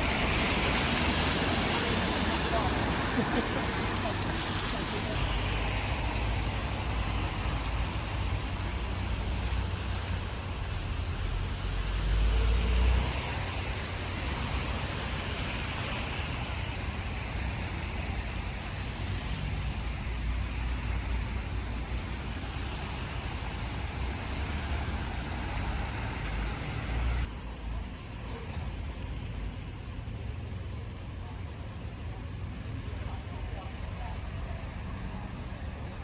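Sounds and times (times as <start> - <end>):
road vehicle rumble: 0.0 - 36.0.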